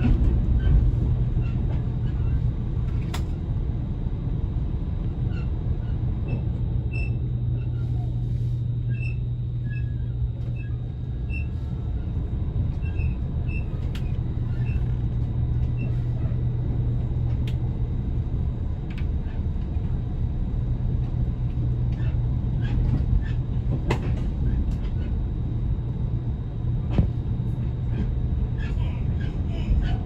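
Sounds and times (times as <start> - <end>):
train hum and rumble: 0.0 - 30.0.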